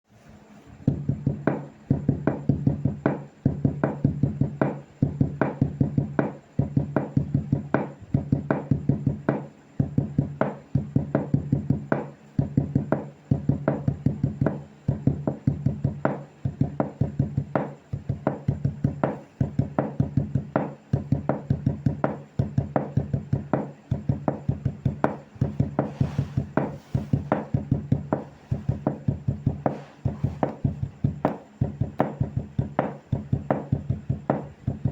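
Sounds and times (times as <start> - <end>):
wood knocking rhythmically: 0.9 - 34.9.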